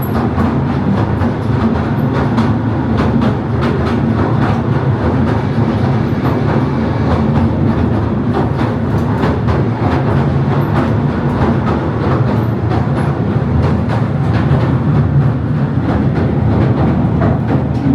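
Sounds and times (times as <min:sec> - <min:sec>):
train rumble and hum: 0:00.0 - 0:17.9
wheels clicking over rail joints: 0:00.0 - 0:17.9.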